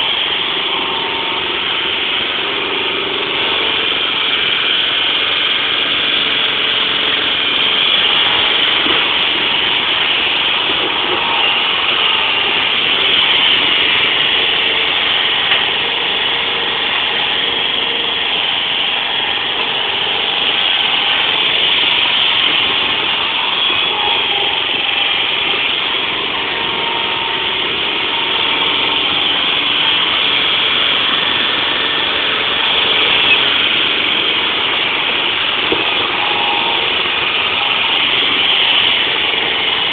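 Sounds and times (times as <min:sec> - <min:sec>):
forklift engine running: 0:00.0 - 0:39.9.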